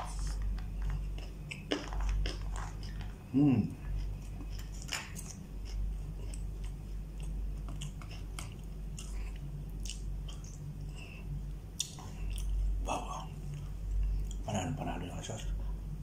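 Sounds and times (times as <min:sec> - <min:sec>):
person chewing food: 0:00.0 - 0:14.5
steady low hum: 0:00.0 - 0:16.0.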